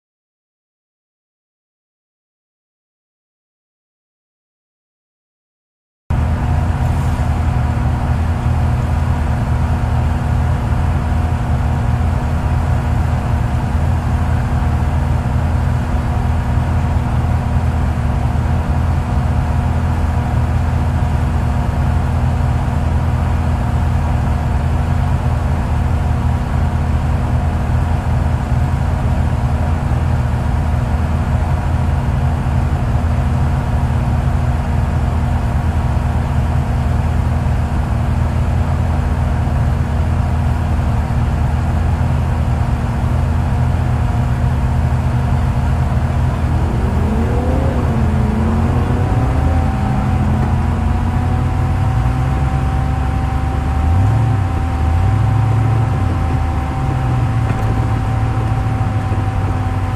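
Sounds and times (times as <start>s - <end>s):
engine idling: 6.1s - 59.9s.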